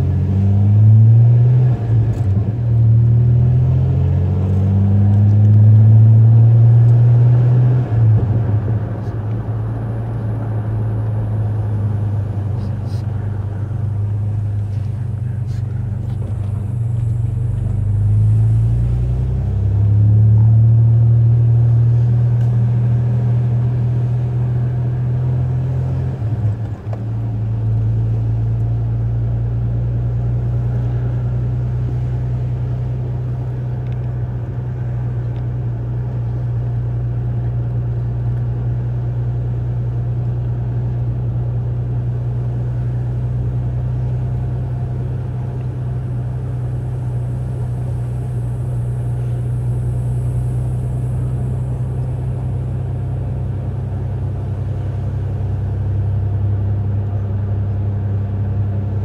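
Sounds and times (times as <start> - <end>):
truck engine droning inside cab: 0.0 - 59.0.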